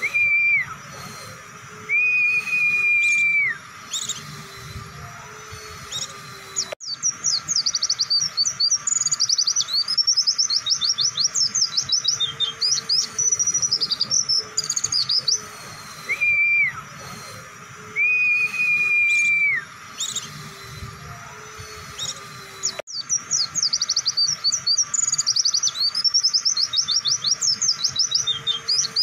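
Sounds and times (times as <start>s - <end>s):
bird chirping song: 0.0s - 29.0s
whistled bird notes: 0.0s - 29.0s.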